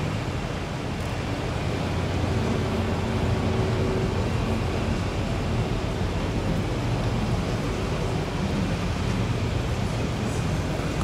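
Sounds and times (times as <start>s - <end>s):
boat engines rumbling: 0.0s - 11.0s
wind and water hiss: 0.0s - 11.0s.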